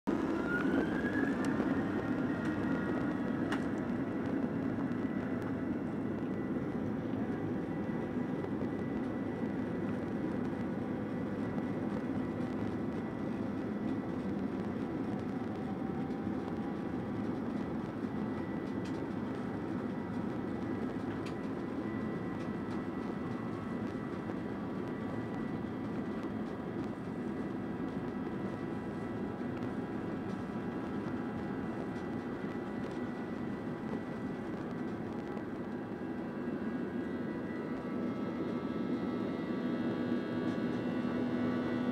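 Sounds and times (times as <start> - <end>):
jet engines whining and rumbling: 0.0 - 41.9.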